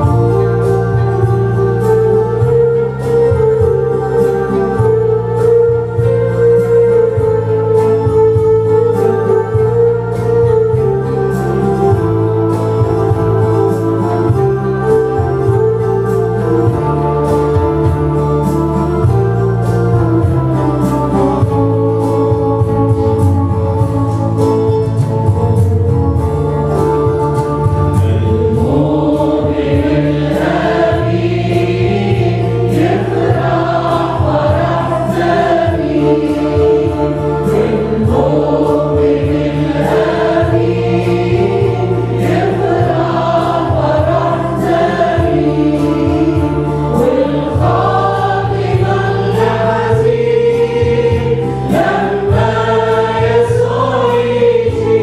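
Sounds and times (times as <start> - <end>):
group singing a hymn: 0.0 - 23.6, 24.2 - 55.0
electric keyboard: 0.0 - 55.0.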